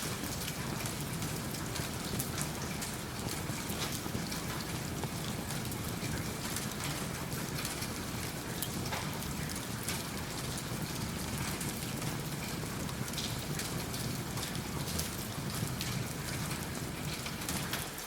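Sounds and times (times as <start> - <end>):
steady rain falling: 0.0 - 18.0
wood fire crackling: 0.0 - 18.0.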